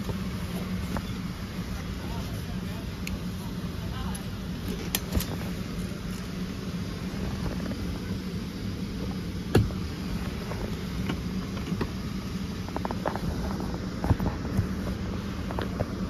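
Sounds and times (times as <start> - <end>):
cabin air system hum: 0.0 - 16.0.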